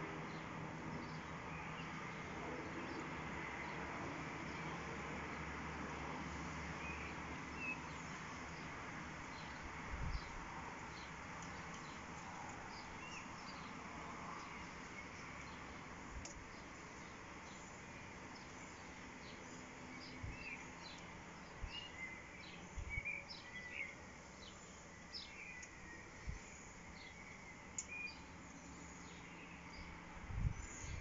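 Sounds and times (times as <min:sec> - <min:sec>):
small birds chirping: 0:00.2 - 0:31.0.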